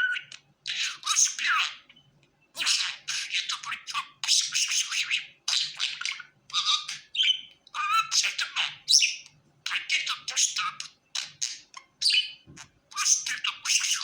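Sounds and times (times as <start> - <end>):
budgerigar chirping and warbling: 0.0 - 2.0, 2.6 - 14.0.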